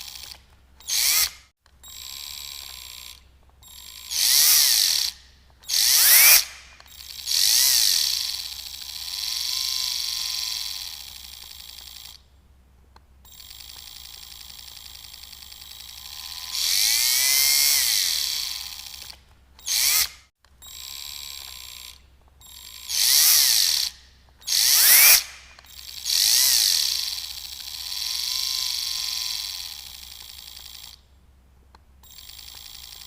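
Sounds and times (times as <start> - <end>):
electric drill whine: 0.0 - 12.2, 13.3 - 31.0.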